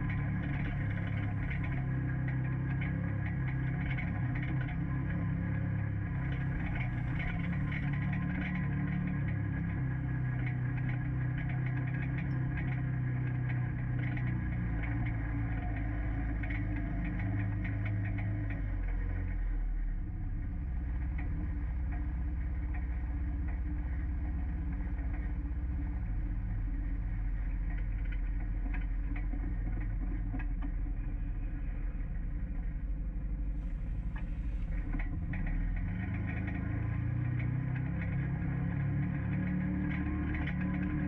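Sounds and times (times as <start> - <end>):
utility vehicle engine running: 0.0 - 41.0.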